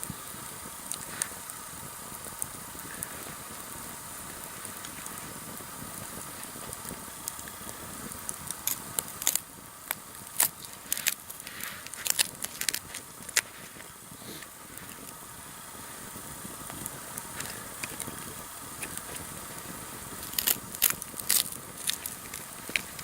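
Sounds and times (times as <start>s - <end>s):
campfire flames rushing: 0.0s - 23.0s
fire crackles and pops: 0.0s - 23.0s.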